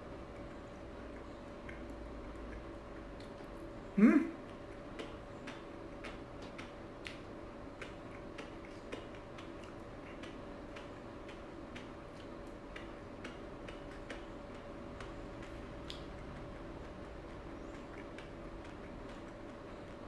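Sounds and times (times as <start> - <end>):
faint steady hum: 0.0 - 20.0
wet chewing mouth clicks: 0.0 - 20.0.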